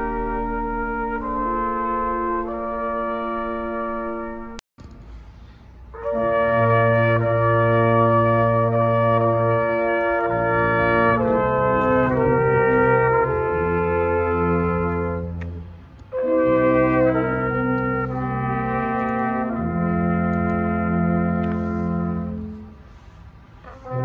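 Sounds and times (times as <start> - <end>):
brass ensemble playing chorale: 0.0 - 4.6, 5.9 - 24.0.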